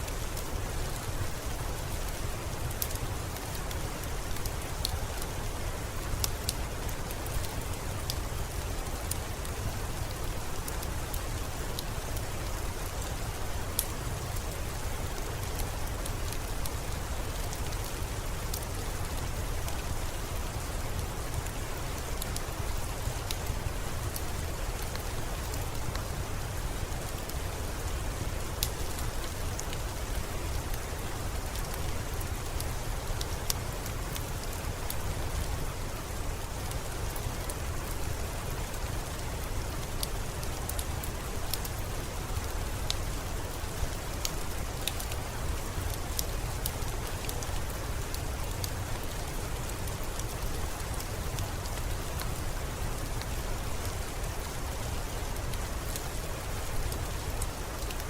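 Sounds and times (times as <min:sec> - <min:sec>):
steady rain: 0:00.0 - 0:58.0
wood fire crackling: 0:00.1 - 0:58.0.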